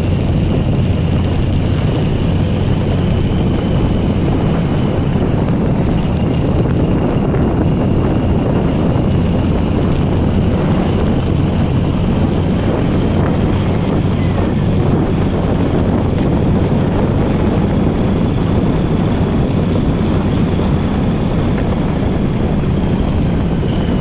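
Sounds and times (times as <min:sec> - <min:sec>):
motorcycle engine running: 0:00.0 - 0:24.0
wind on microphone: 0:00.0 - 0:24.0.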